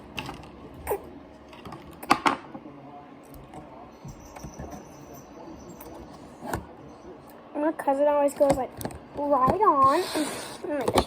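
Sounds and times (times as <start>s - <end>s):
low even background noise: 0.0s - 11.0s.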